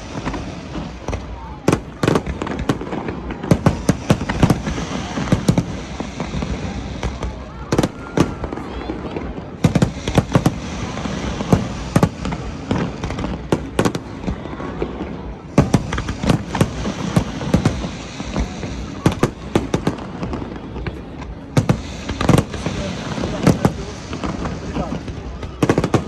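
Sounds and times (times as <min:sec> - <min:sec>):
fireworks exploding: 0:00.0 - 0:26.0
steady background noise: 0:00.0 - 0:26.0.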